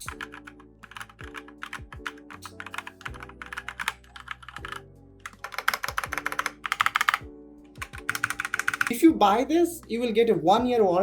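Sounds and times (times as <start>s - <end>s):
fast mechanical keyboard typing: 0.0s - 9.0s
background music with steady beat: 0.0s - 11.0s.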